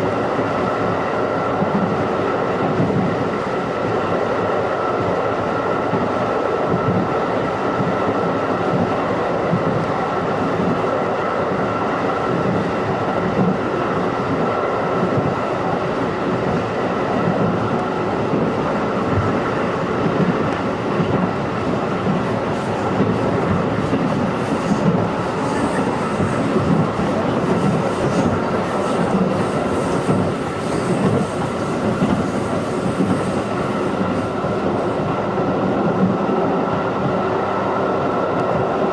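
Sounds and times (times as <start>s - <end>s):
constant train whine: 0.0s - 38.9s
train wheels rumbling on rail: 0.0s - 38.9s.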